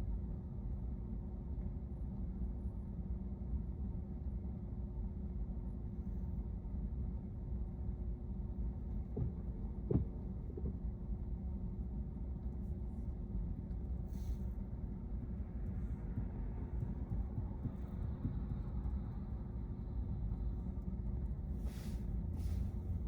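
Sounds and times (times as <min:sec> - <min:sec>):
road and tyre rumble in car: 0:00.0 - 0:23.0.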